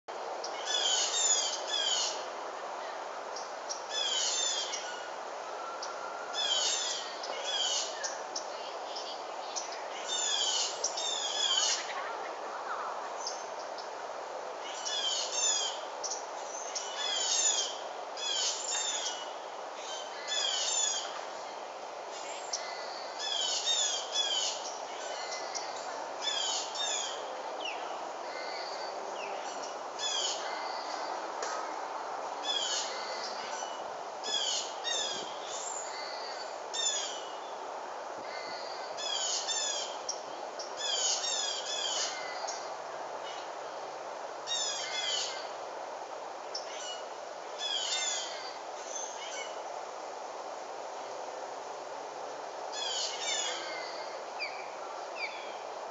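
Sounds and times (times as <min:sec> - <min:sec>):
songbirds chirping: 0:00.1 - 0:49.8.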